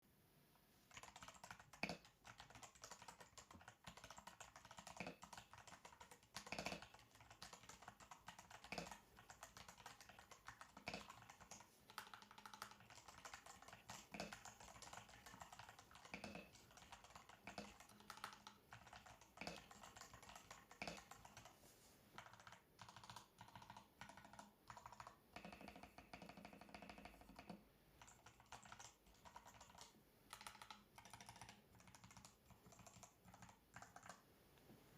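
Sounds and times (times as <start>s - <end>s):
mechanical keyboard clicks: 0.9s - 21.5s, 22.2s - 34.2s.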